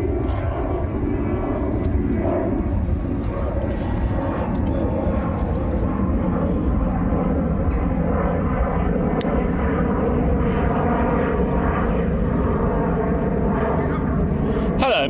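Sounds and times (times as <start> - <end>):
aeroplane flying over: 0.0 - 15.0.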